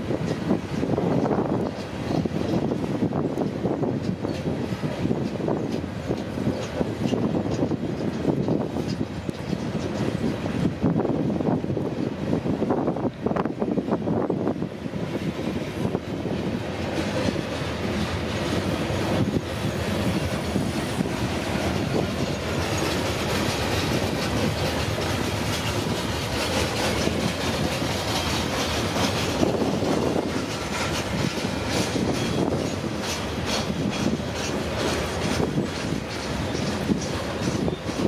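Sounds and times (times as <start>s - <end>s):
train wheels rumbling on rail: 0.0s - 38.0s
wheels clicking over rail joints: 0.0s - 38.0s.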